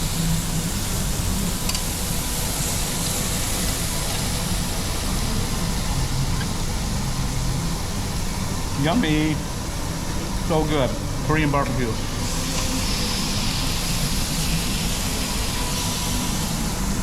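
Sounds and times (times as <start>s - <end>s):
meat sizzling on a grill: 0.0s - 17.0s
ventilation hum: 0.0s - 17.0s.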